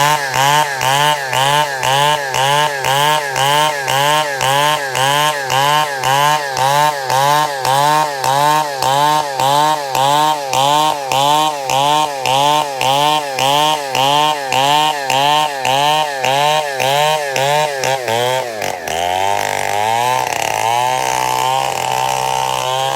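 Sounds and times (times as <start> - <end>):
chainsaw cutting through wood: 0.0 - 22.9.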